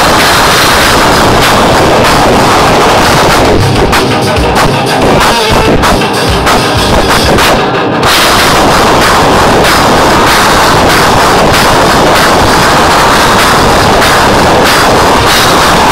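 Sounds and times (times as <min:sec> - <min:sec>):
distorted live band: 0:00.0 - 0:15.9
hard drum hits: 0:00.0 - 0:15.9.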